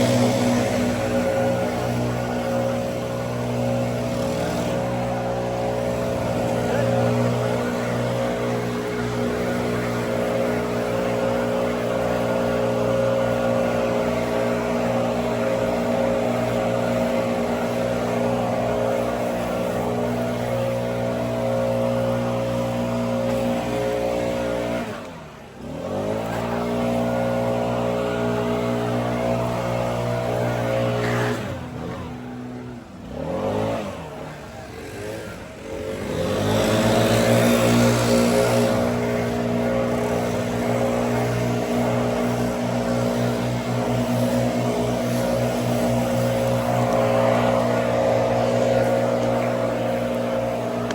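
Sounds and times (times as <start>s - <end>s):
small petrol engine revving: 0.0s - 50.9s.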